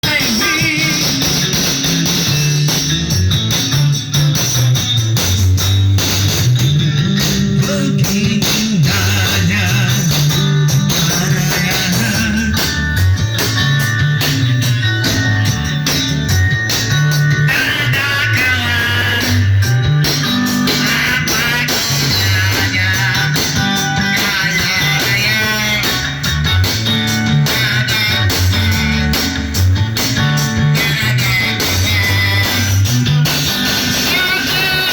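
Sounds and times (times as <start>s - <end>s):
bass guitar line: 0.0s - 34.9s
electric guitar melody: 0.0s - 34.9s
steady drum beat: 0.0s - 34.9s.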